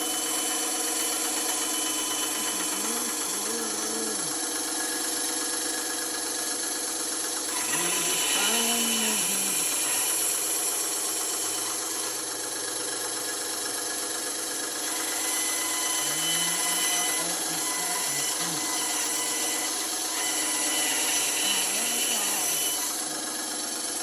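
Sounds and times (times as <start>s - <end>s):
bandsaw running: 0.0s - 24.0s.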